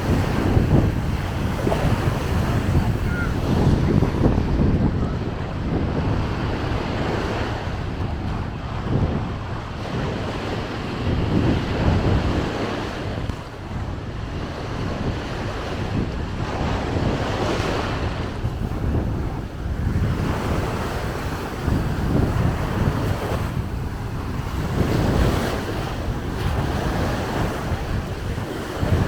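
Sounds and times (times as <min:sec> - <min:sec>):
sea waves breaking on beach: 0:00.0 - 0:29.0
wind buffeting microphone: 0:00.0 - 0:29.0.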